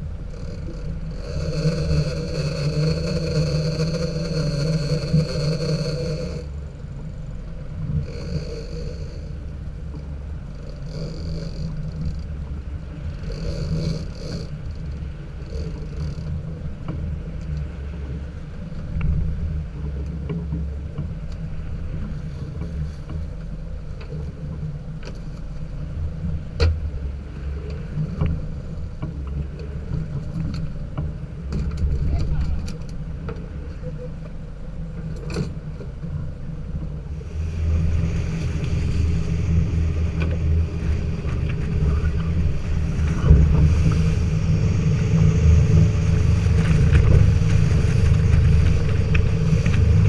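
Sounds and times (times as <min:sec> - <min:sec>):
boat motor running: 0:00.0 - 0:50.0
water noise: 0:00.0 - 0:50.0
wind: 0:00.0 - 0:50.0.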